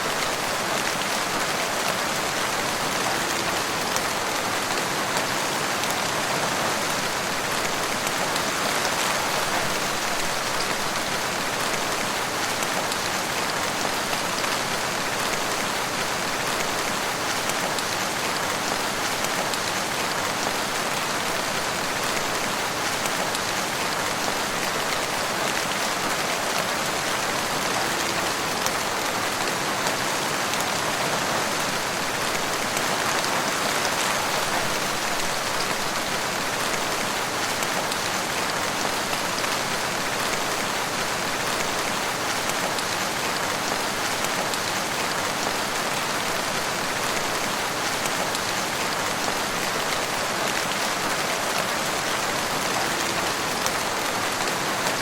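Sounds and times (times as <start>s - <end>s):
steady rain in forest: 0.0s - 55.0s.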